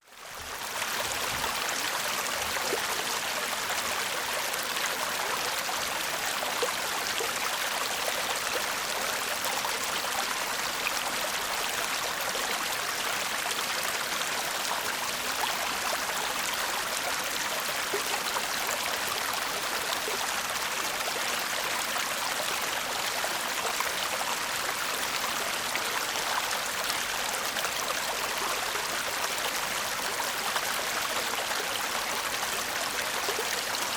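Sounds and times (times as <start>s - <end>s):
stream babbling over stones: 0.1s - 33.9s.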